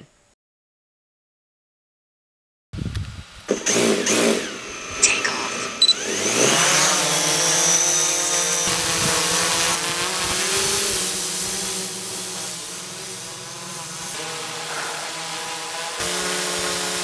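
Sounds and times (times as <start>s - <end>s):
drone propellers whining and buzzing: 2.9s - 17.0s.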